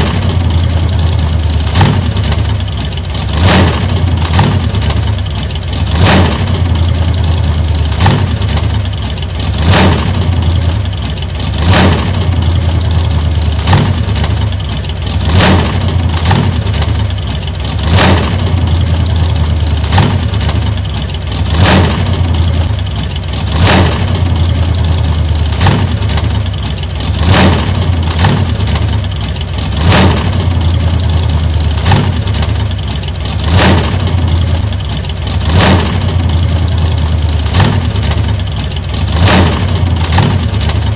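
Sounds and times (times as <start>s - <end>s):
car engine humming: 0.0s - 40.9s.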